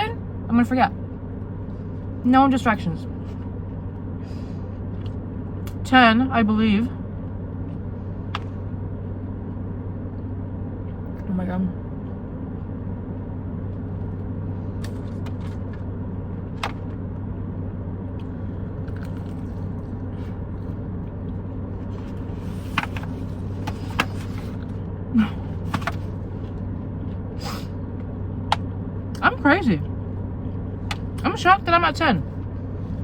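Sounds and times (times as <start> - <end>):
car engine hum inside cabin: 0.0 - 33.0.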